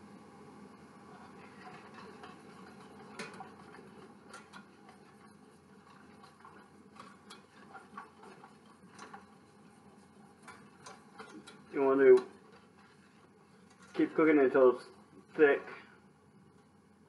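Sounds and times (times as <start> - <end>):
whisk scraping metal saucepan: 1.1 - 15.4.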